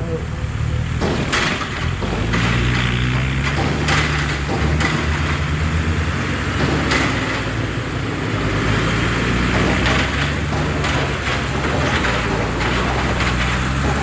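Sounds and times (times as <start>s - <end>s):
diesel truck engine running: 0.0s - 14.0s
metallic clanks from truck body: 0.9s - 14.0s.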